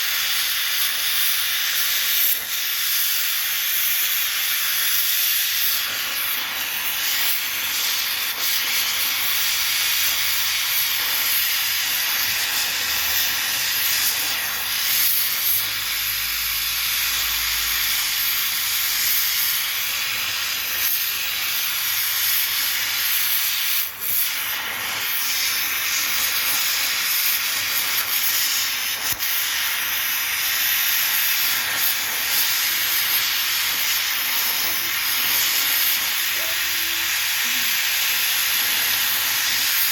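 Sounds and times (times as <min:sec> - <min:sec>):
gas welding torch hissing: 0:00.0 - 0:39.9.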